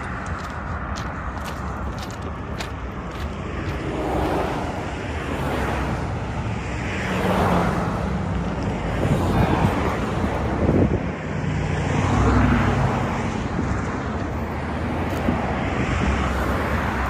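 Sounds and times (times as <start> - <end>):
cars passing: 0.0 - 17.0
steady low traffic rumble: 0.0 - 17.0.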